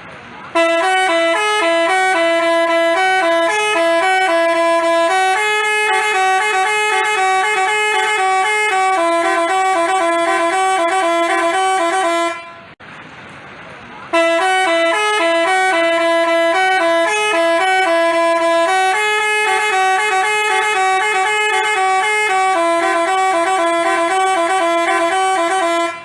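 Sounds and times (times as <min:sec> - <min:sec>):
multi-tone bus horn melody: 0:00.4 - 0:12.8, 0:14.1 - 0:26.0.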